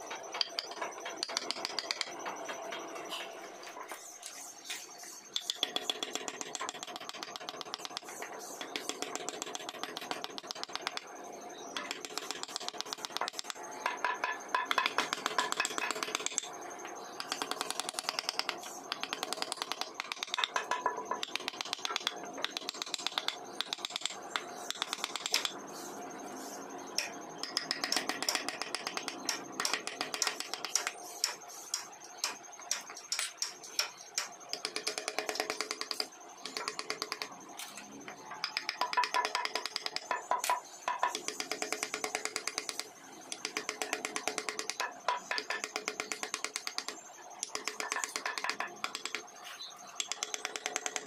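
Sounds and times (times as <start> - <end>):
carving tools tapping wood: 0.4 - 2.2, 5.3 - 11.1, 11.8 - 16.5, 17.2 - 25.6, 27.0 - 37.3, 38.4 - 49.3, 50.0 - 51.0.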